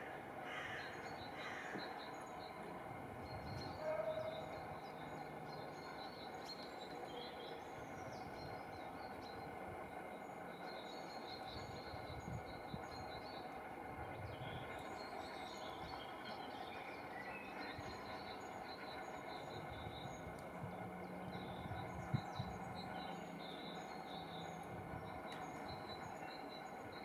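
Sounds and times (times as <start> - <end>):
small birds chirping: 0.6 - 27.0.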